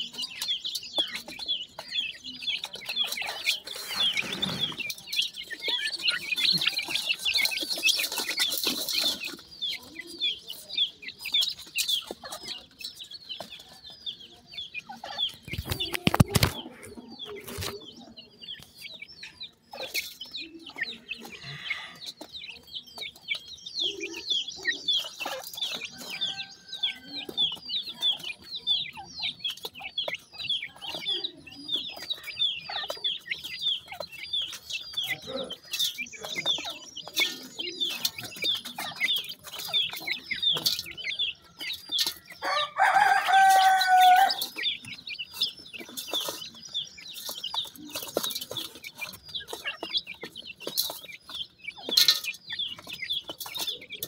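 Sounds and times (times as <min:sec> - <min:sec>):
chicks peeping: 0:00.0 - 0:54.0
pecking and scratching in soil: 0:00.0 - 0:54.0.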